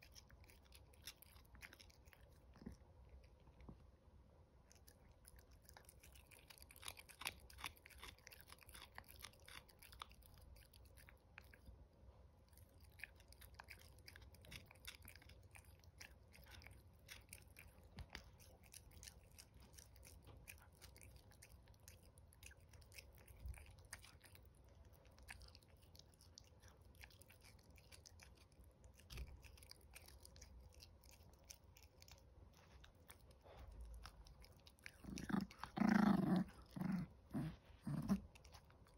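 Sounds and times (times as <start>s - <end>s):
puppy gnawing on chew stick: 0.0s - 3.9s, 4.6s - 38.9s.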